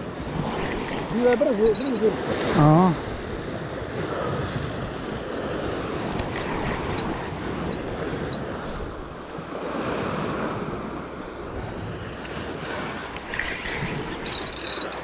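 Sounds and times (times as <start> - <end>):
sea waves washing against rocks: 0.0 - 15.0
wind buffeting microphone: 0.0 - 15.0.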